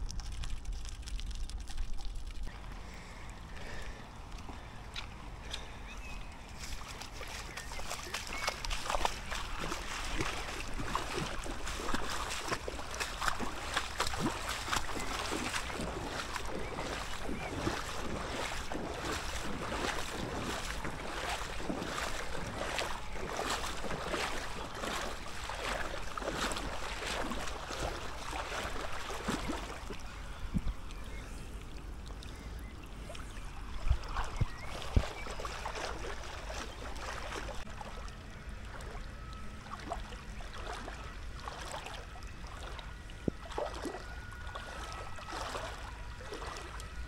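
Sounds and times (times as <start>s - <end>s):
wind rumbling on microphone: 0.0s - 37.8s, 42.3s - 43.6s
river water rushing and splashing: 6.3s - 30.2s, 33.1s - 47.0s.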